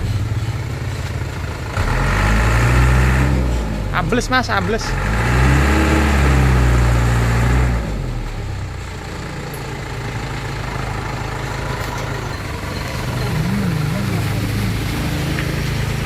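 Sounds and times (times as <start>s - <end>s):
dump truck engine running: 0.0s - 16.0s.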